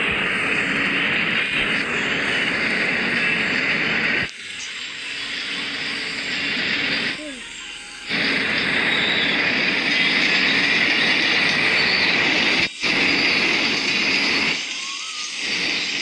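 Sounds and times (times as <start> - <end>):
train wheel and rail noise: 0.0 - 16.0.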